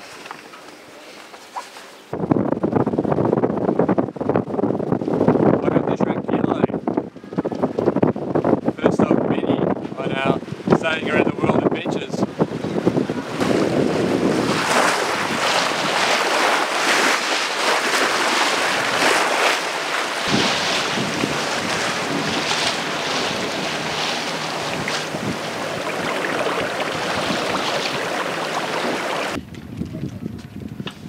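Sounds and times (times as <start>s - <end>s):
water rushing along boat hull: 0.0s - 29.4s
wind buffeting microphone: 2.1s - 31.0s.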